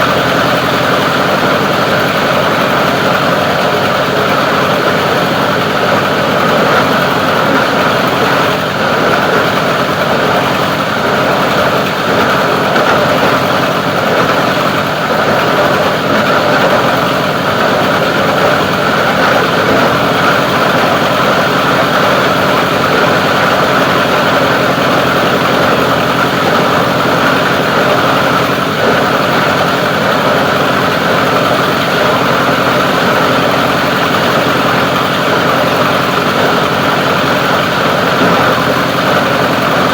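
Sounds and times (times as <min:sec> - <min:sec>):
plastic grinder running: 0:00.0 - 0:39.9.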